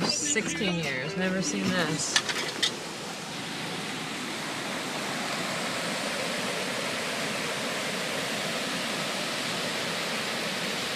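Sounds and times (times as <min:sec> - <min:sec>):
floodwater rushing: 0:00.9 - 0:10.9.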